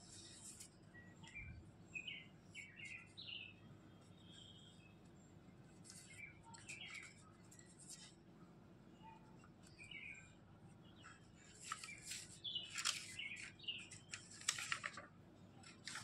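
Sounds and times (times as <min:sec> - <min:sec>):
small birds chirping: 0:00.0 - 0:08.1, 0:08.9 - 0:14.9.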